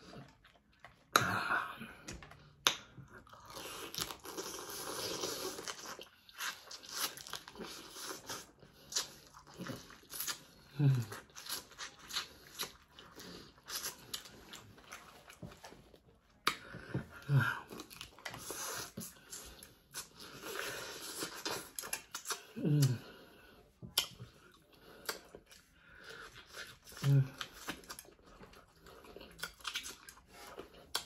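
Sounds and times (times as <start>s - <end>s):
chewing and sucking: 0.0s - 1.3s, 2.0s - 31.0s.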